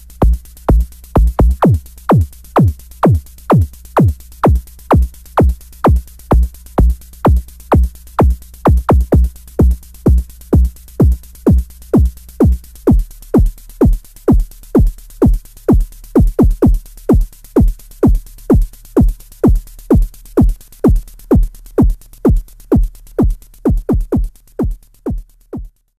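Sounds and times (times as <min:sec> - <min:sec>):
synth kick drum thumps: 0:00.0 - 0:25.8.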